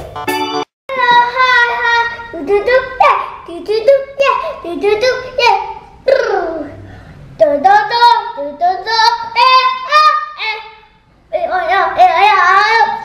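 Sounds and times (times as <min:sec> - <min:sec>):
child singing: 0:00.9 - 0:06.7, 0:07.4 - 0:13.0.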